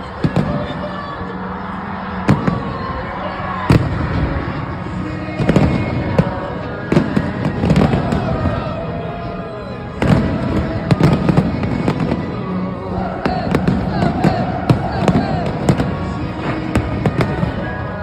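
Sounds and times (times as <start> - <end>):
fireworks bangs: 0.0 - 9.0, 9.9 - 18.0
background music: 0.0 - 18.0.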